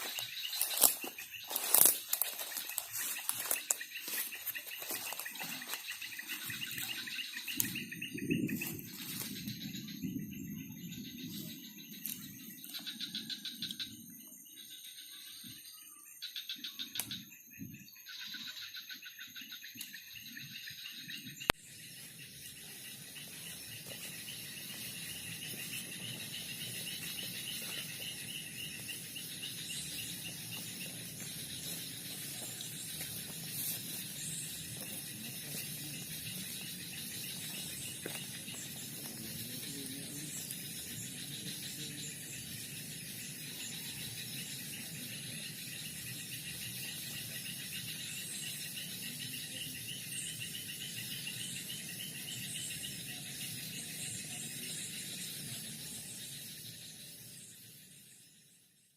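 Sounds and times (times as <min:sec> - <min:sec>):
insects chirring: 0:00.0 - 0:58.8.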